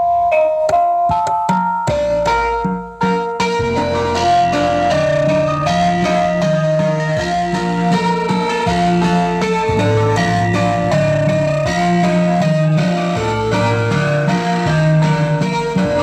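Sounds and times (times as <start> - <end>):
plucked-string melody: 0.0 - 16.0
sustained bass notes: 1.9 - 16.0.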